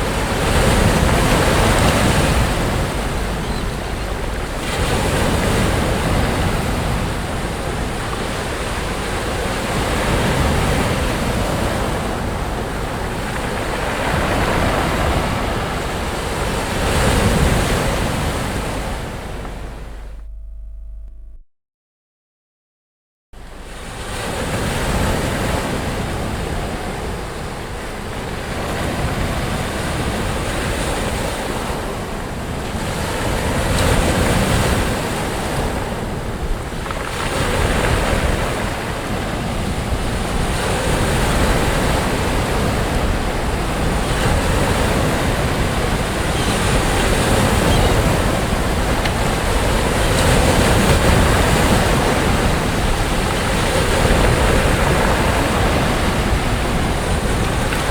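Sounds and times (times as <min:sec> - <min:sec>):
sea waves breaking on beach: 0:00.0 - 0:20.0, 0:23.4 - 0:57.9.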